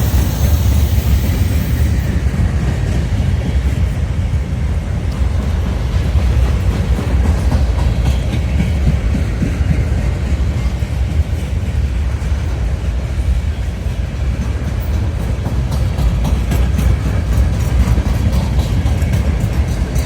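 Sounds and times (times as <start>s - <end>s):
freight train wheels rumbling: 0.0s - 20.0s
wheels clicking over rail joints: 0.0s - 20.0s.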